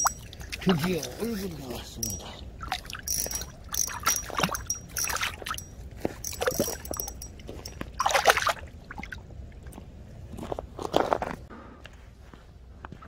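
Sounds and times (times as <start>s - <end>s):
water splashing and sloshing: 0.0s - 11.3s.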